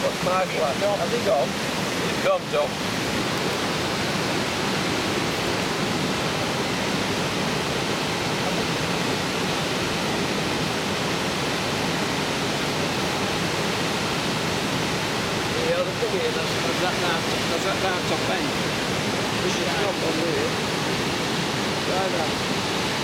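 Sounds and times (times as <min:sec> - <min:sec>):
water rushing over weir: 0:00.0 - 0:23.0.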